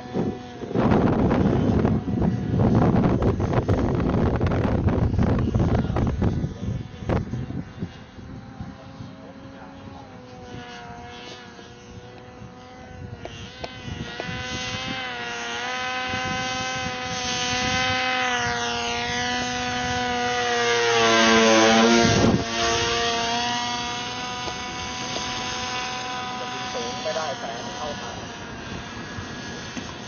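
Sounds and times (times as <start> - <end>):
model airplane motor whine: 0.0 - 30.0.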